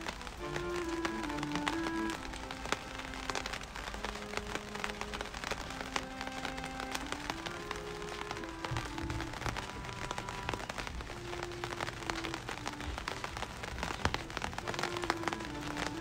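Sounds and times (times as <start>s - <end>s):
dense crackling patter: 0.0s - 16.0s
slow music of held notes: 0.0s - 16.0s.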